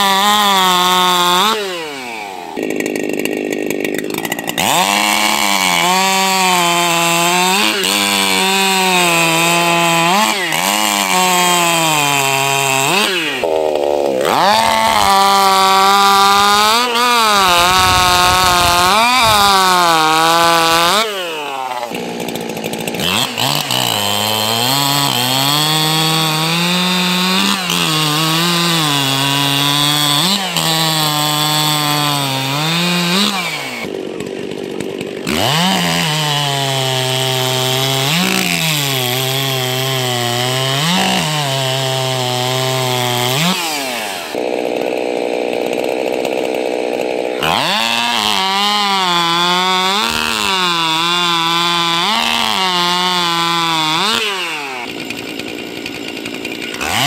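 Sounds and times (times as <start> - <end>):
chainsaws cutting timber: 0.0 - 57.0.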